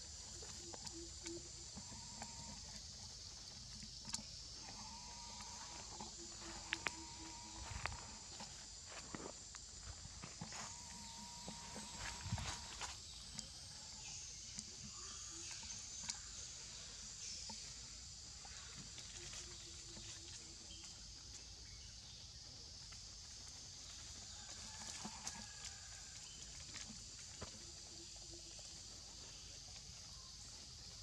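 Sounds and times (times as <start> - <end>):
insects chorus: 0.0 - 31.0.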